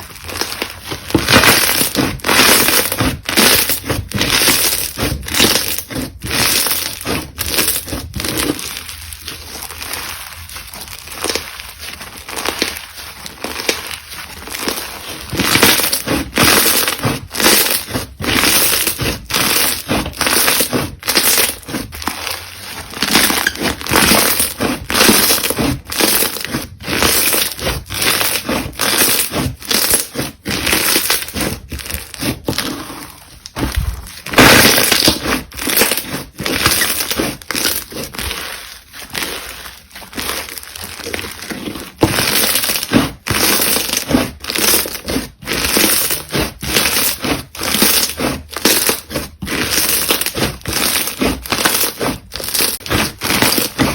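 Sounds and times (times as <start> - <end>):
slime crackling and popping: 0.0 - 53.9.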